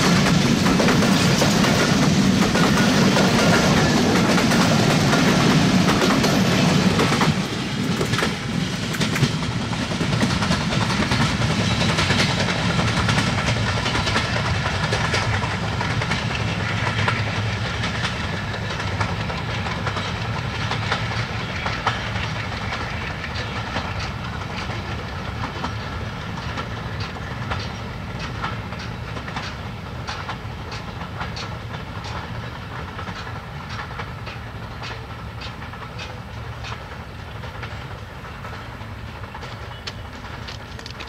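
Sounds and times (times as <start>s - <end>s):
train rumble: 0.0s - 41.0s
wheels clicking over rail joints: 0.0s - 41.0s.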